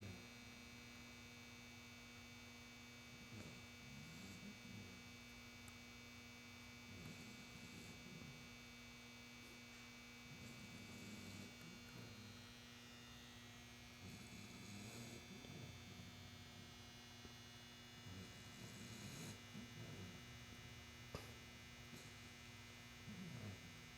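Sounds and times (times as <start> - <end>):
electrical hum: 0.0 - 23.9
puppy snoring softly: 0.0 - 23.9.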